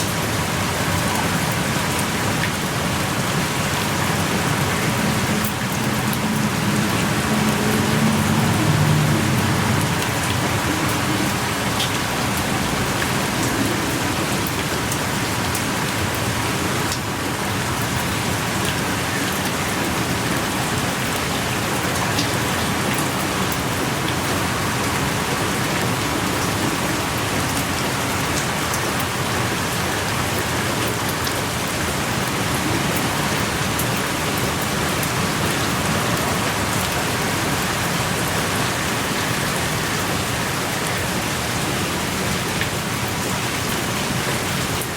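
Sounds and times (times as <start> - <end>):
steady pouring rain: 0.0 - 44.9.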